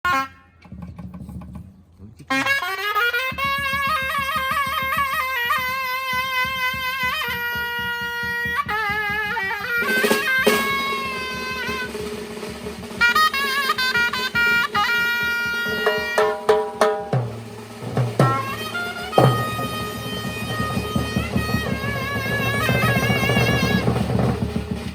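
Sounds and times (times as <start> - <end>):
shawm playing a melody: 2.2 - 24.9
steady drum beat: 2.5 - 24.9.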